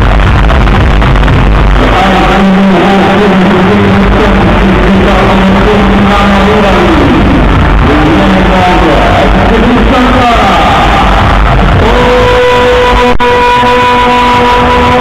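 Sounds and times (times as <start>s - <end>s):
distorted arena music: 0.0s - 15.0s.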